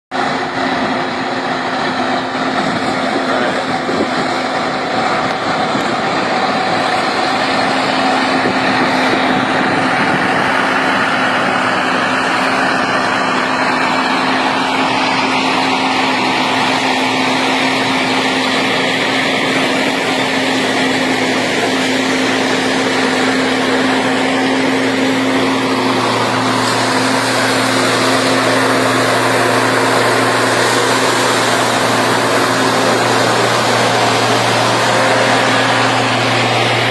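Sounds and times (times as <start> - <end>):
heavy machinery engine drone: 0.1 - 36.9.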